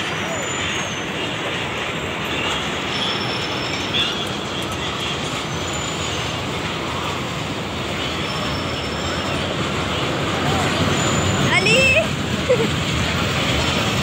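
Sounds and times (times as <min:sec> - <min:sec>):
ride train rolling on steel track: 0:00.0 - 0:14.0.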